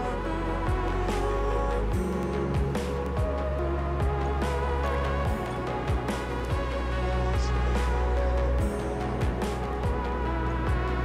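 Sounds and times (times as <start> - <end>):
deep bass line: 0.0 - 11.0.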